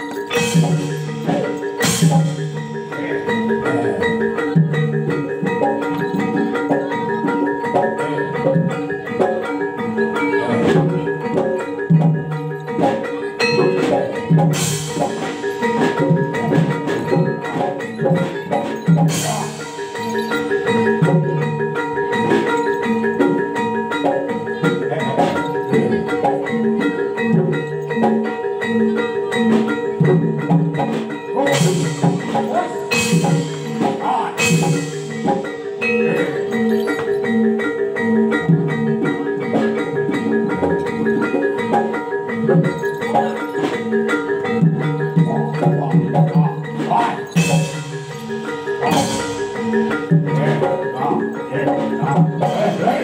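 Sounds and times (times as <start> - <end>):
gamelan metallophones melody: 0.0 - 53.0
steady drum beat: 0.3 - 7.4, 10.5 - 28.1, 29.4 - 53.0.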